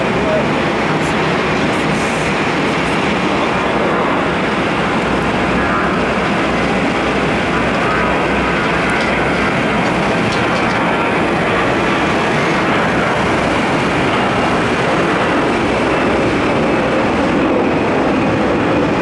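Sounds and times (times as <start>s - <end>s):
jet engine roaring at takeoff: 0.0s - 19.0s.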